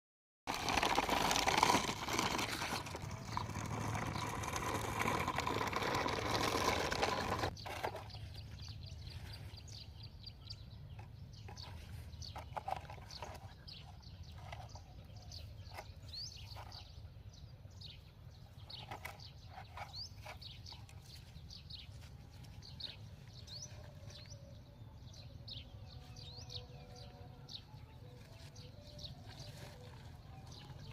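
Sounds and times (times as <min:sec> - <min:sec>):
birds chirping: 0:02.4 - 0:30.9.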